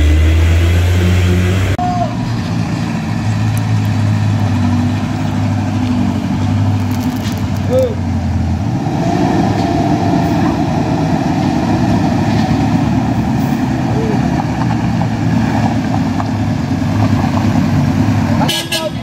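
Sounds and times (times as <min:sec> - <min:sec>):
truck and car engines climbing: 0:00.0 - 0:19.0.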